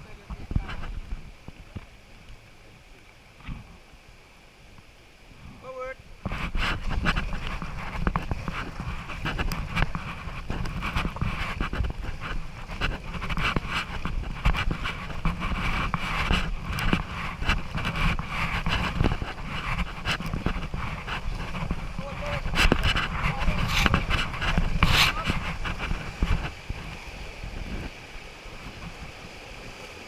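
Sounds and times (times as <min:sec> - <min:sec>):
paddle splashes: 0:00.0 - 0:30.0
rushing river water: 0:00.0 - 0:30.0
wind rumble on microphone: 0:00.0 - 0:30.0.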